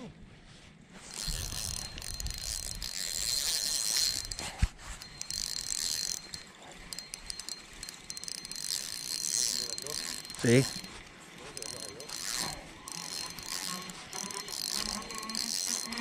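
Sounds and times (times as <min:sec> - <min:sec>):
fishing reel cranking: 0:01.0 - 0:16.0.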